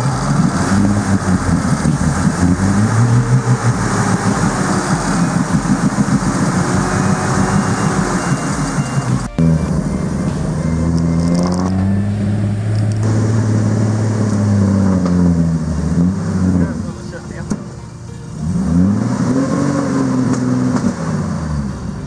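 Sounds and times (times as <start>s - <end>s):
engine running hard under load: 0.0s - 22.0s
wheels churning through mud and water: 0.0s - 22.0s.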